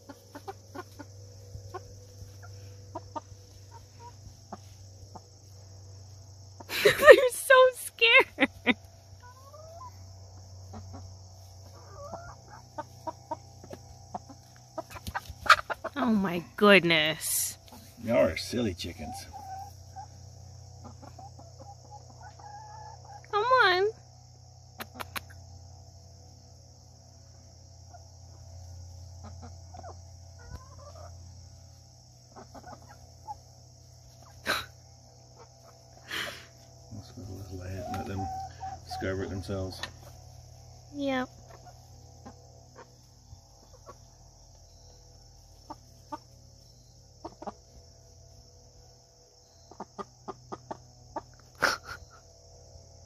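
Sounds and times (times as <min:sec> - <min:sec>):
chickens clucking: 0:00.0 - 0:52.6.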